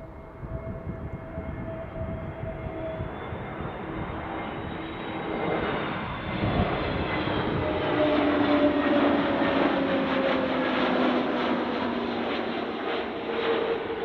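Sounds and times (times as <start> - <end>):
airliner engines on approach: 0.0 - 14.0.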